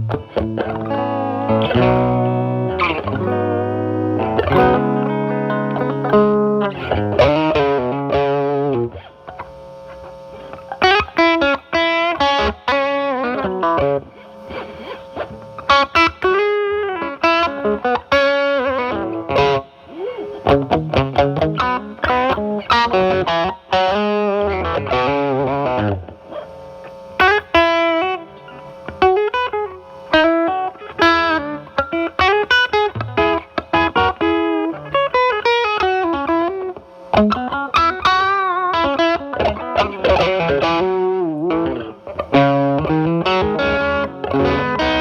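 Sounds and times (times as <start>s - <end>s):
overdriven electric guitar: 0.0s - 45.0s.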